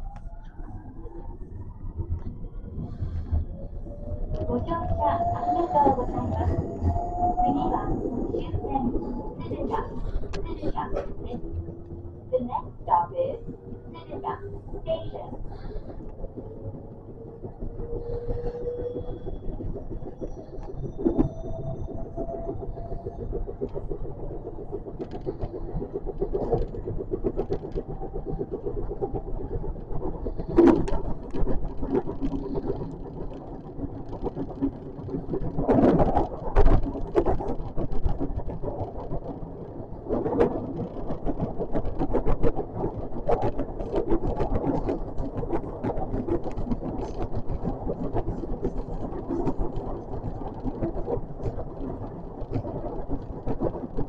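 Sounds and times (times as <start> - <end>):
electric train rumbling: 0.0 - 54.0
wheels clicking on track: 2.0 - 54.0.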